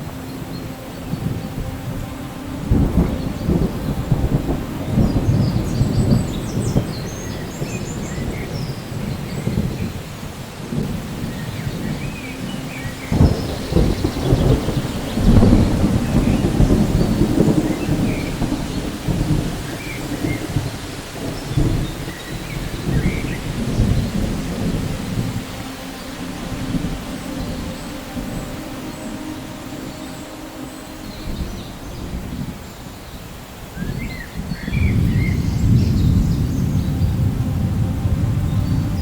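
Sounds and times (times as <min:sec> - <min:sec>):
low rolling thunder: 0:00.0 - 0:39.0
steady rain: 0:00.0 - 0:39.0.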